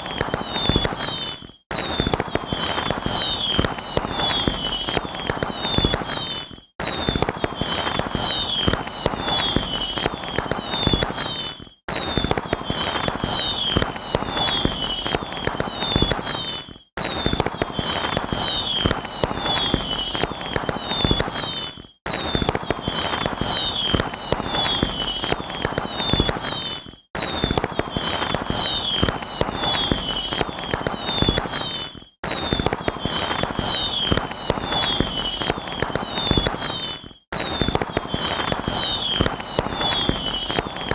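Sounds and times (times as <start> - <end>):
fireworks crackling and popping: 0.0 - 40.9
fireworks whistles falling in pitch: 0.0 - 40.9.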